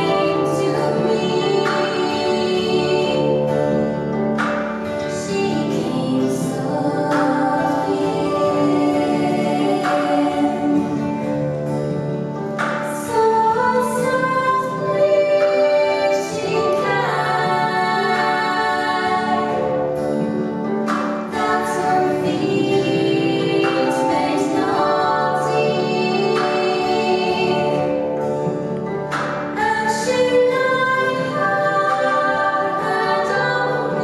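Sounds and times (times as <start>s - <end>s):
woman singing: 0.0s - 3.9s, 5.0s - 11.6s, 12.8s - 19.9s, 21.3s - 28.5s, 29.5s - 34.0s
acoustic guitar: 0.0s - 34.0s.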